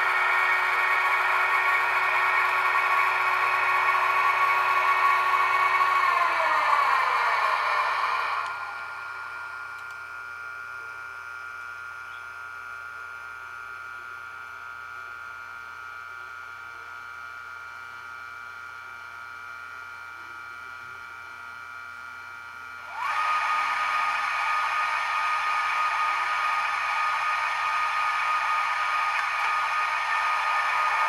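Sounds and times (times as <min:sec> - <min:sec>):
electric locomotive hum from small speaker: 0:00.0 - 0:31.0.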